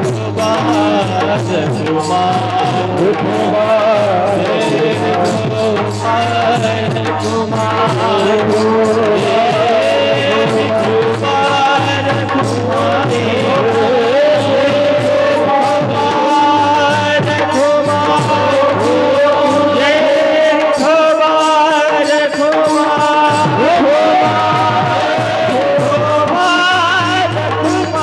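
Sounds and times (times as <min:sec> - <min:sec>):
devotional singing: 0:00.0 - 0:28.0
percussion beat: 0:00.0 - 0:28.0.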